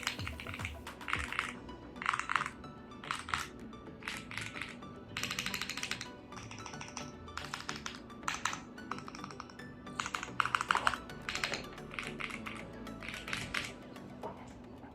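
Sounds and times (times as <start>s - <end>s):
mechanical keyboard typing: 0.0s - 13.8s
background music: 0.0s - 14.9s.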